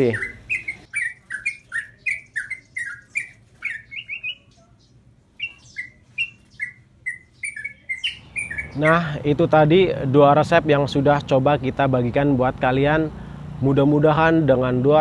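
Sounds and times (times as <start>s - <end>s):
bird chirping notes: 0.0s - 15.0s.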